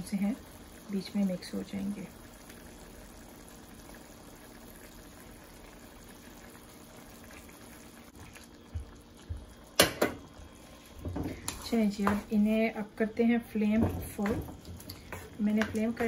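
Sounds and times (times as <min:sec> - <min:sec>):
food simmering with faint bubbling: 0:00.0 - 0:16.0.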